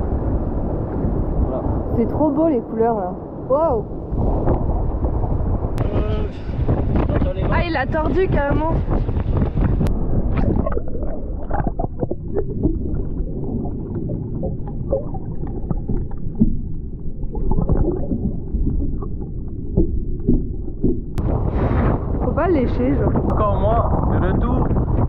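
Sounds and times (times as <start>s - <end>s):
underwater moving water rumble: 0.0s - 25.0s.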